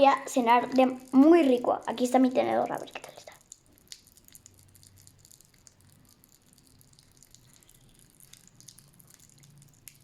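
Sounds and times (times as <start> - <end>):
popping candy crackling: 0.0 - 10.0.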